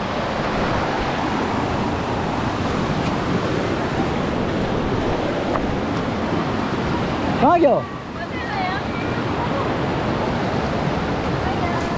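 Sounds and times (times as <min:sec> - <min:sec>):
river rushing over stones: 0:00.0 - 0:11.9.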